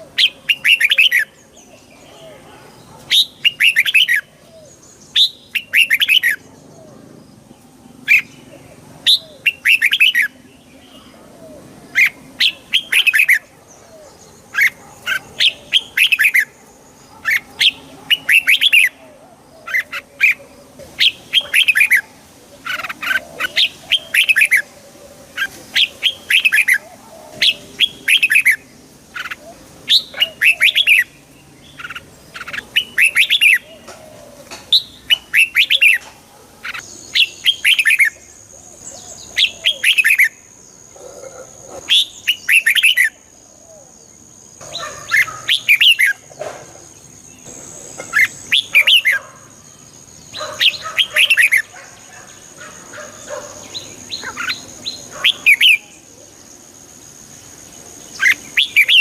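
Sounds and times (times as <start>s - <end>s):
bulbul singing warbled phrases: 0.0s - 59.0s.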